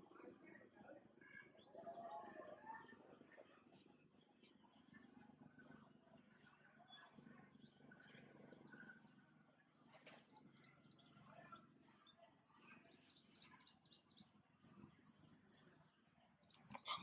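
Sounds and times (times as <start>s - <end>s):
faint high-pitched chirps: 0.0s - 17.0s.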